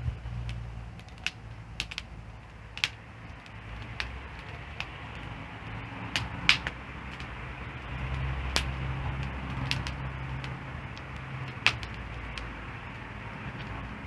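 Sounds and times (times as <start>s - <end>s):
campfire crackling and popping: 0.0s - 14.0s
low rumble: 0.0s - 14.0s.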